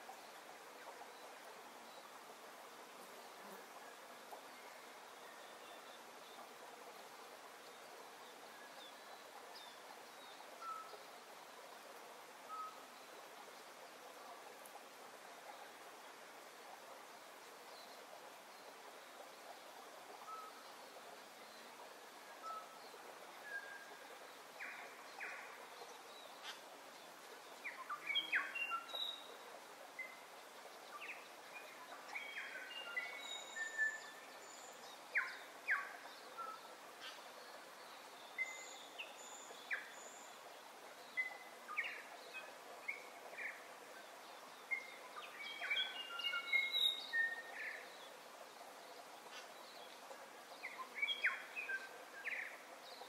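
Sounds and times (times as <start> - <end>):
outdoor hiss: 0.0 - 53.0.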